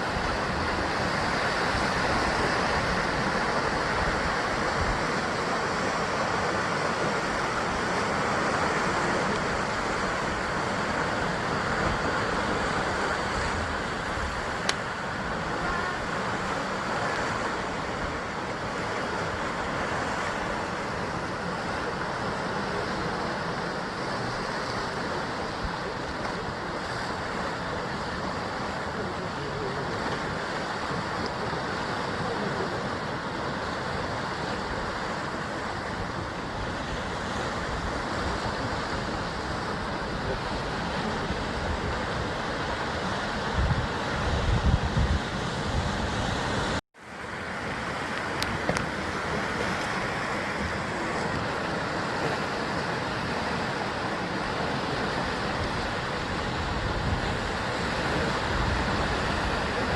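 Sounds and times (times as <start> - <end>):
surf washing against rocks: 0.0 - 59.9.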